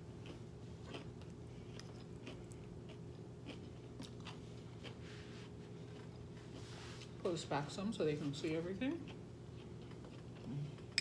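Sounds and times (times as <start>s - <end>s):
chewing and crunching: 0.0s - 7.2s, 8.2s - 11.0s
faint steady hum: 0.0s - 11.0s.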